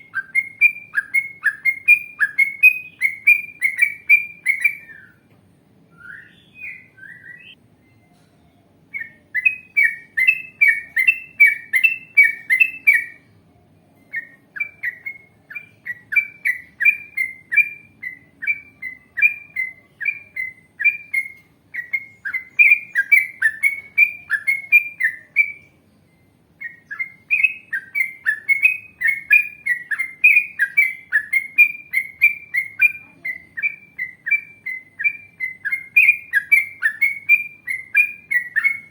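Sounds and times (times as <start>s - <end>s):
bird singing rapid chirping notes: 0.0s - 5.3s, 5.9s - 38.9s.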